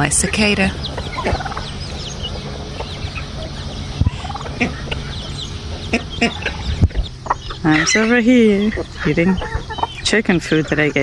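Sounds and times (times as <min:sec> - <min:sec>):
chick peeping: 0:00.0 - 0:11.0
hen clucking: 0:00.0 - 0:11.0
steady low hum: 0:00.0 - 0:11.0.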